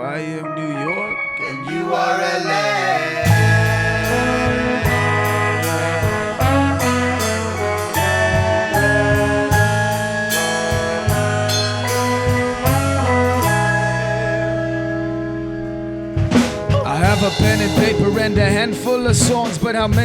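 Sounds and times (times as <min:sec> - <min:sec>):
live band playing: 0:01.1 - 0:20.0.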